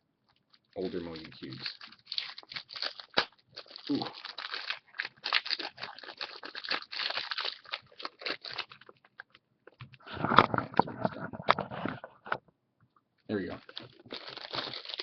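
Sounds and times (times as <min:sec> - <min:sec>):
plastic packaging crinkling: 0:00.4 - 0:11.2, 0:13.4 - 0:15.0.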